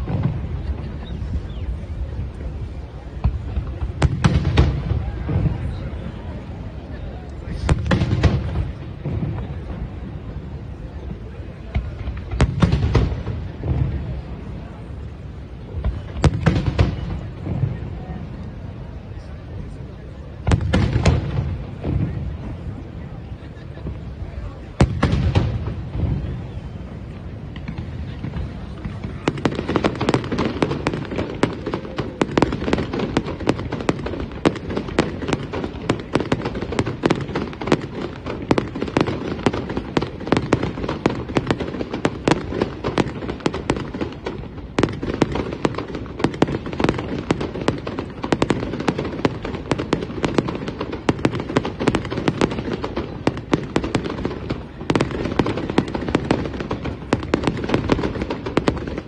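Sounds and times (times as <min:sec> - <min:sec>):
continuous low rumble: 0:00.0 - 0:59.0
fireworks bangs and crackling: 0:00.0 - 0:59.0.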